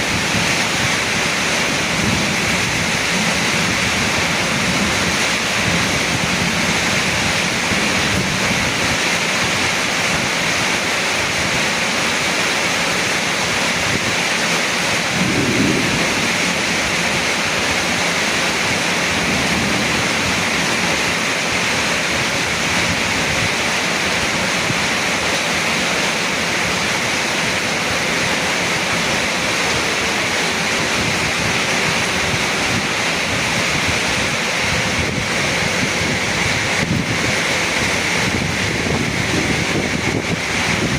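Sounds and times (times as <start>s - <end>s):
heavy rain pouring: 0.0s - 40.9s
strong wind: 0.0s - 40.9s.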